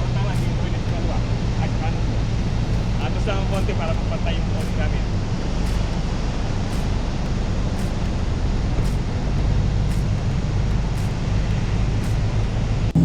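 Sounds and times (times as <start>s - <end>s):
road and wind noise: 0.0s - 13.0s
vehicle engine rumble: 0.0s - 13.0s.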